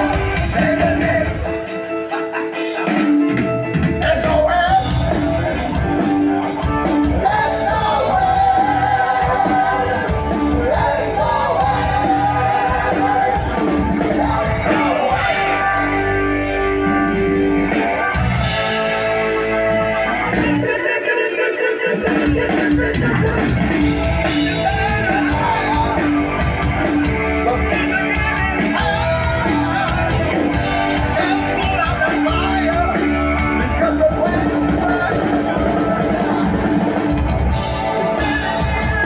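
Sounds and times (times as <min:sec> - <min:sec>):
man singing: 0:00.0 - 0:01.9, 0:03.8 - 0:16.1, 0:20.1 - 0:37.0, 0:38.0 - 0:39.0
bass guitar: 0:00.0 - 0:39.0
drums: 0:00.0 - 0:39.0
electric guitar: 0:00.0 - 0:39.0.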